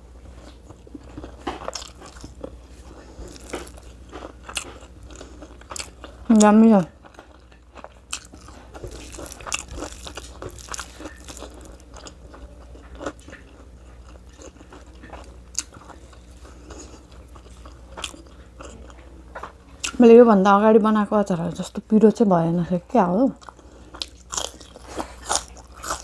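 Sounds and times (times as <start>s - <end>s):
person chewing food: 0.2s - 20.0s, 23.4s - 26.0s.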